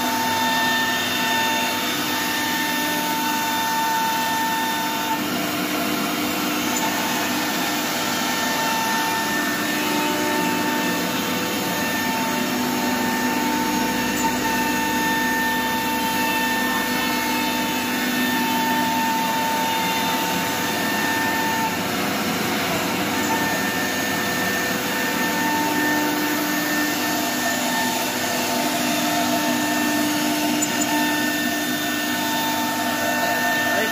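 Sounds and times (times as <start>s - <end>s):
wood router machine whine: 0.0s - 33.9s.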